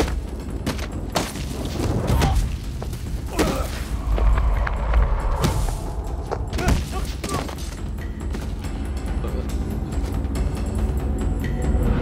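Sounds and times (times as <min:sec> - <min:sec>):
film music score: 0:00.0 - 0:12.0.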